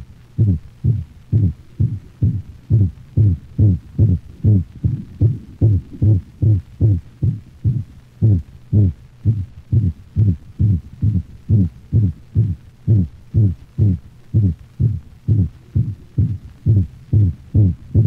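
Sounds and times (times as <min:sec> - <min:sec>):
dog heartbeat: 0:00.4 - 0:18.0.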